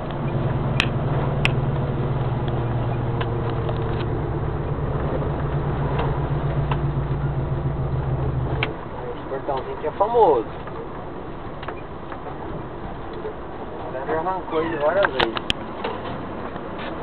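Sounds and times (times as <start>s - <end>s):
van engine droning: 0.0s - 17.0s.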